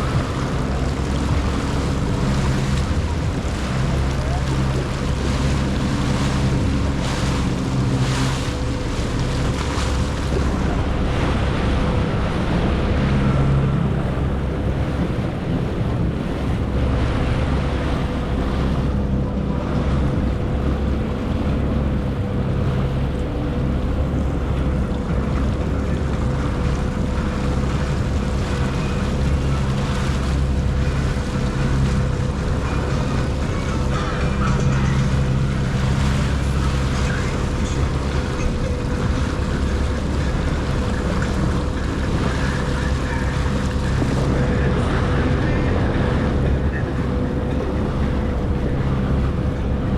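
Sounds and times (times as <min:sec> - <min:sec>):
jet ski engine whining: 0:00.0 - 0:49.9
wind buffeting microphone: 0:00.0 - 0:49.9.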